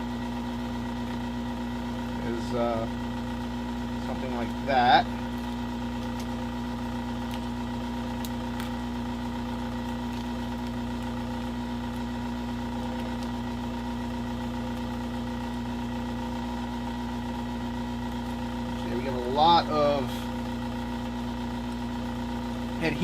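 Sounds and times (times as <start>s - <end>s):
hot-air tool motor humming: 0.0s - 23.0s.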